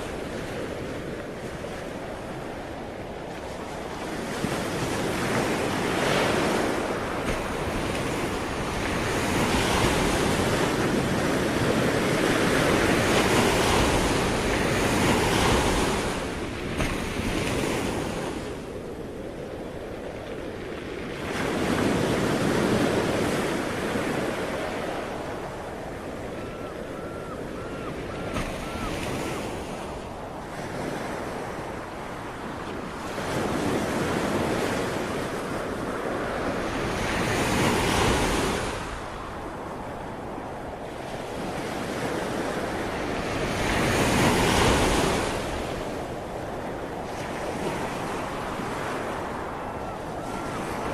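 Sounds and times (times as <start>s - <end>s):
ocean waves breaking: 0.0s - 50.9s.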